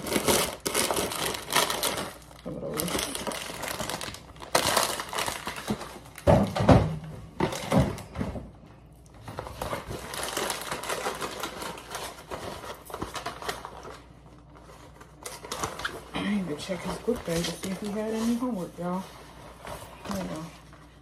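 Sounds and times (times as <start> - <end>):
snack bag rustling and crinkling: 0.0 - 6.2, 9.2 - 20.7.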